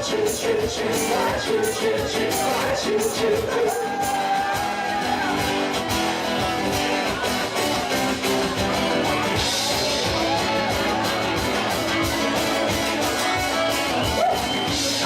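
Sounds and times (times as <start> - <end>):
rock guitars: 0.0 - 15.0
steady drum beat: 0.0 - 15.0.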